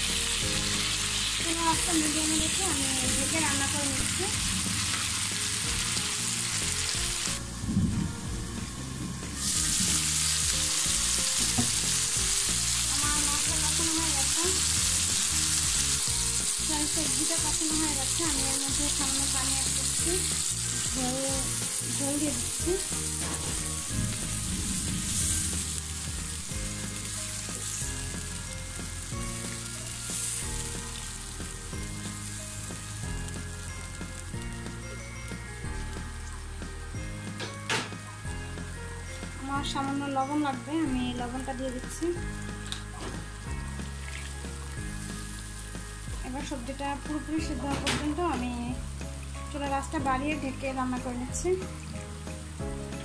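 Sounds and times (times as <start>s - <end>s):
vegetables sizzling in a frying pan: 0.0s - 36.6s, 37.9s - 53.0s
soft background music: 0.0s - 53.0s.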